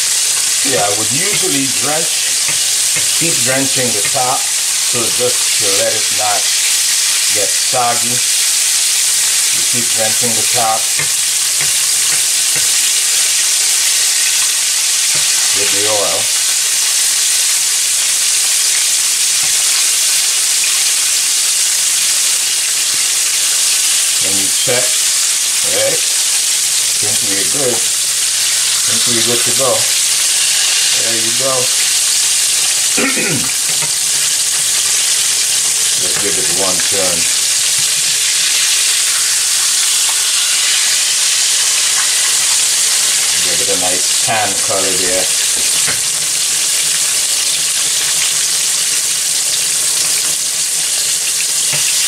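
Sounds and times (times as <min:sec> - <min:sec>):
fish sizzling in hot oil: 0:00.0 - 0:52.0.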